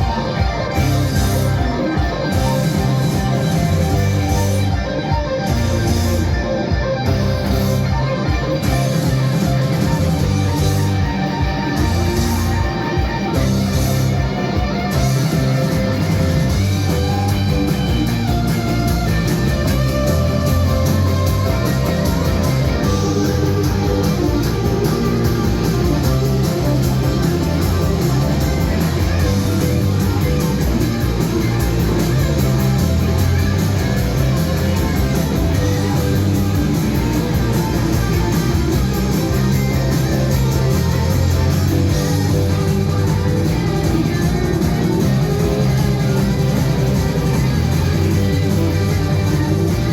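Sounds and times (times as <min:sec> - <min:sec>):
rock music with guitar: 0:00.0 - 0:49.9.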